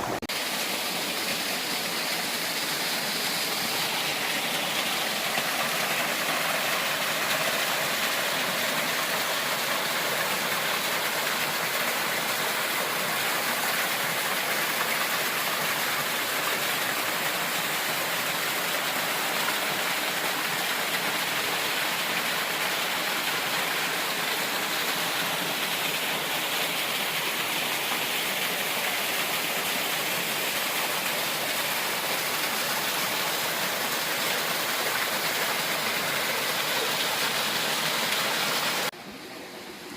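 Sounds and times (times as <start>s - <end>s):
fast-flowing water rushing: 0.0s - 39.9s.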